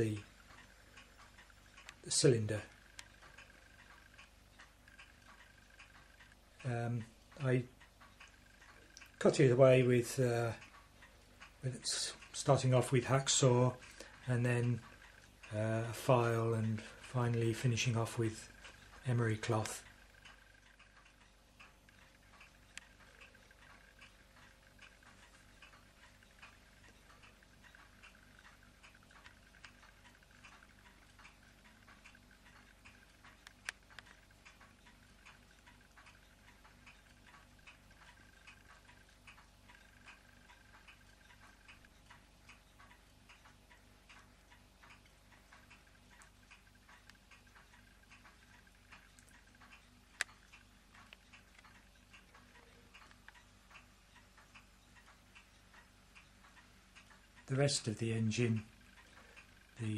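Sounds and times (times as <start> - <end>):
faint regular ticking: 0.0 - 59.9.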